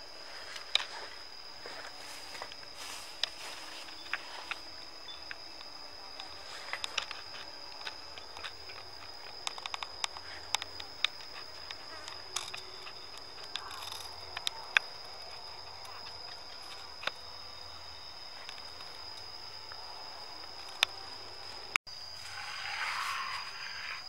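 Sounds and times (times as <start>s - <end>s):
forest ambience: 0.0s - 24.0s
insect trill: 0.0s - 24.0s.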